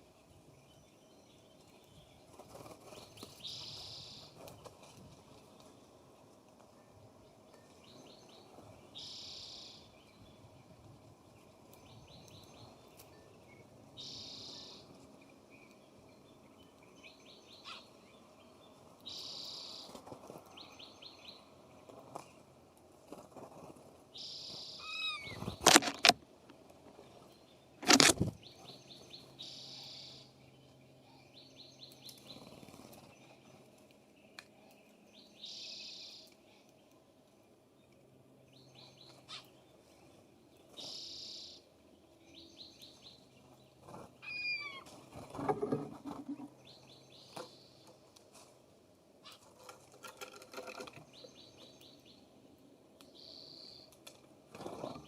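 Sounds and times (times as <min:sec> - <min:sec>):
songbird singing: 0:00.0 - 0:22.7, 0:24.1 - 0:55.0.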